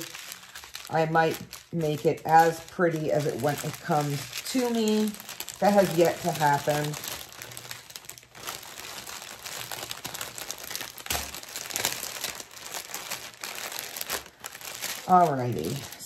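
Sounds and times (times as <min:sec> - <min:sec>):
plastic bag crinkling and rustling: 0:00.0 - 0:16.0.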